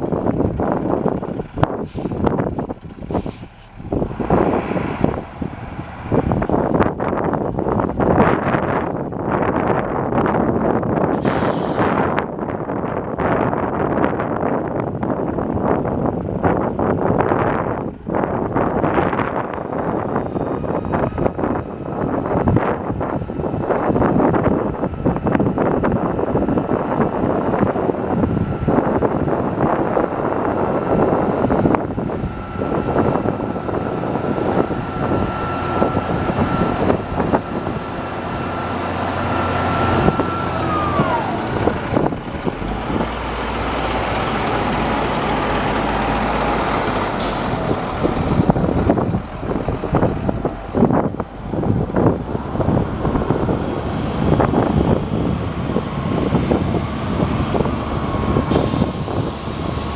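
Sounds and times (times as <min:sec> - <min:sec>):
diesel truck engine whining: 0:00.0 - 0:59.9.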